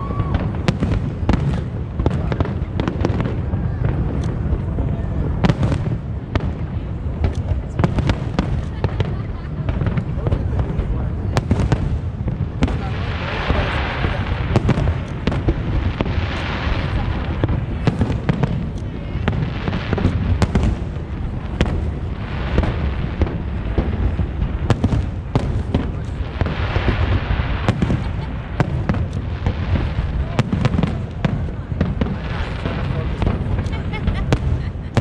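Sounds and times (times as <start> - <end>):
crowd murmur: 0.0 - 35.0
fireworks bangs and pops: 0.0 - 35.0
fireworks crackling hiss: 0.0 - 35.0.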